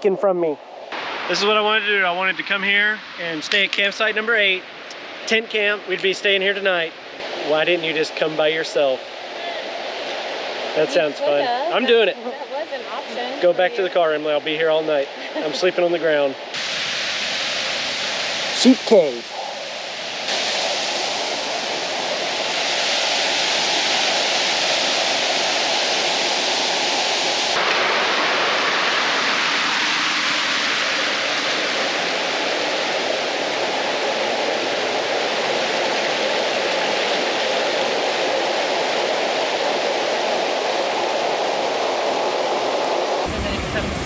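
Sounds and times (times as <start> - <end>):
waterfall rushing loudly: 0.0 - 44.0.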